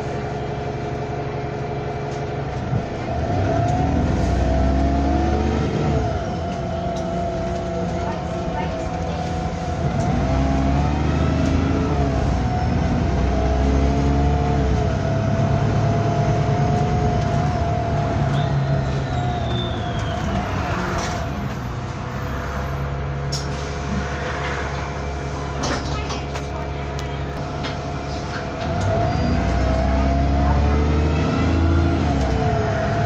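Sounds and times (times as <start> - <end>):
bus engine rumble: 0.0 - 33.0.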